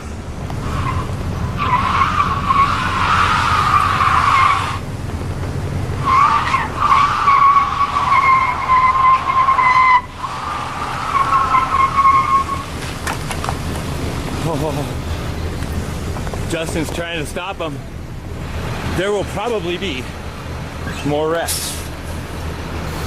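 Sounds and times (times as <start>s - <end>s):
car tyres squealing: 0.0s - 5.2s, 5.9s - 23.0s
low traffic rumble: 0.0s - 23.0s.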